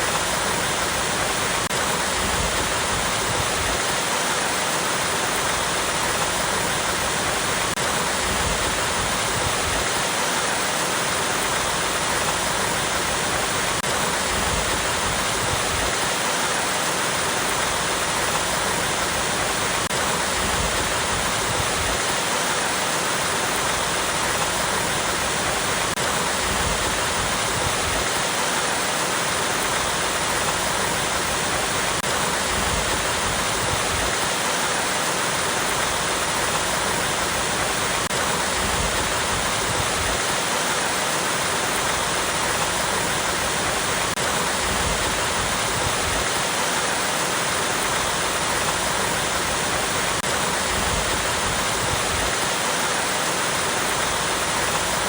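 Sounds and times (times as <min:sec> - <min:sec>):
small waterfall splashing over rocks: 0:00.0 - 0:55.0.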